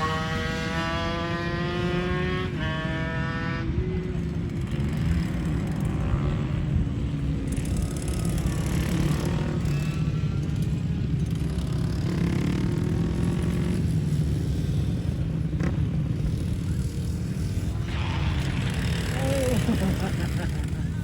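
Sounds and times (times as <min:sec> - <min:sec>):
small motorcycle engines racing: 0:00.0 - 0:21.0.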